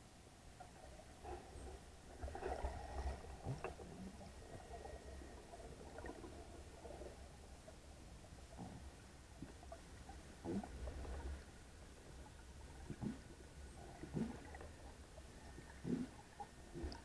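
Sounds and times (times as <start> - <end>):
underwater rumble of moving water: 0.1 - 17.0
underwater clicks and gurgles: 0.4 - 17.0.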